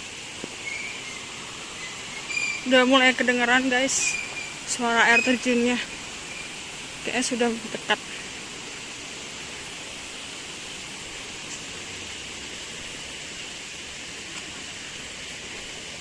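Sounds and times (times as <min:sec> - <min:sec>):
distant waterfall rushing: 0:00.0 - 0:16.0.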